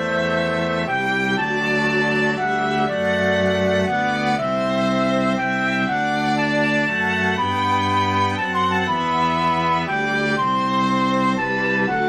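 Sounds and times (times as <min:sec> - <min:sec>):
string quartet playing: 0:00.0 - 0:12.0.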